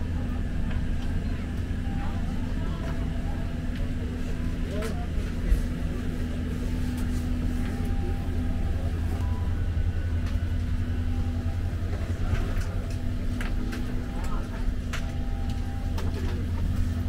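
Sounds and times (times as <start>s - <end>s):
aircraft cabin ventilation hum: 0.0s - 17.0s.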